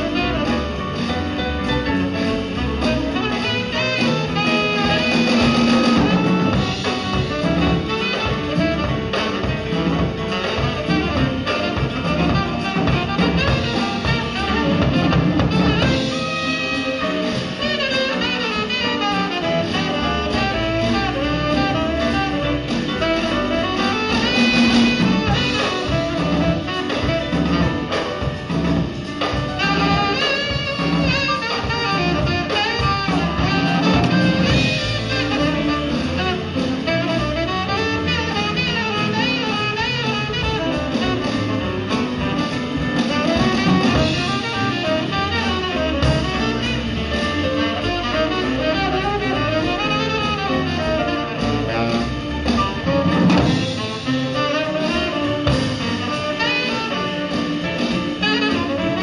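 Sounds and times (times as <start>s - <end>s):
drum kit beat: 0.0s - 59.0s
jazz band playing: 0.0s - 59.0s.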